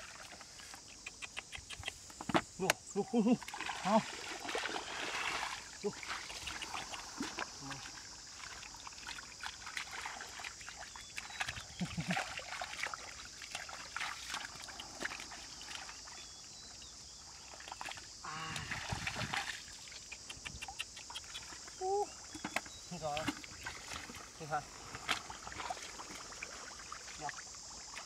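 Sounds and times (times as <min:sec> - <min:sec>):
hands splashing in muddy water: 0:02.6 - 0:16.1, 0:17.6 - 0:21.6, 0:22.2 - 0:28.0.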